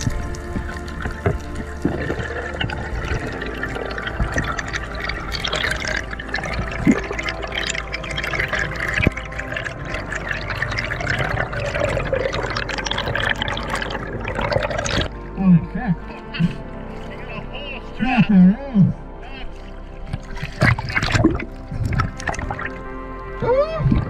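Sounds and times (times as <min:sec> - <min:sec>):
water gurgling and trickling: 0:00.0 - 0:24.0.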